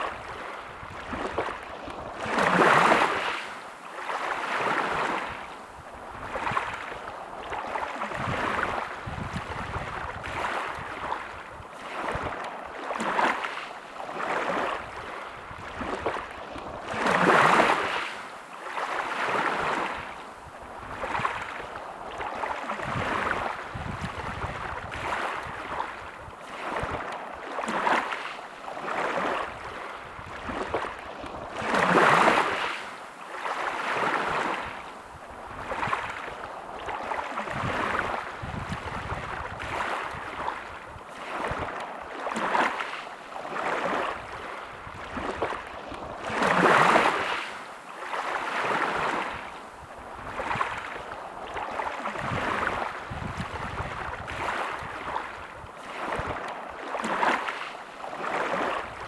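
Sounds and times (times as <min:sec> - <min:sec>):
bigger waves breaking: 0:00.0 - 0:59.0
small waves washing on shore: 0:00.0 - 0:59.0.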